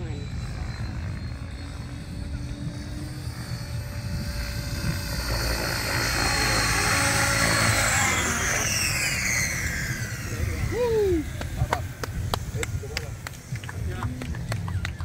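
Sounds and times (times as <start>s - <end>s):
rc helicopter rotor and motor whine: 0.0s - 15.0s.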